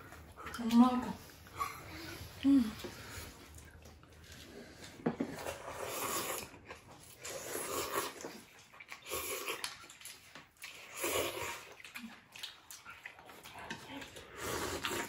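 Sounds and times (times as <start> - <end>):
noodles being slurped: 1.6 - 15.0.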